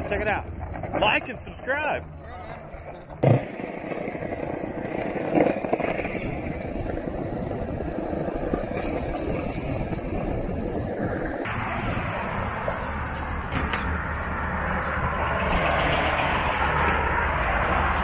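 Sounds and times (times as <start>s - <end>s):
skateboard wheels rolling on pavement: 0.0s - 18.0s.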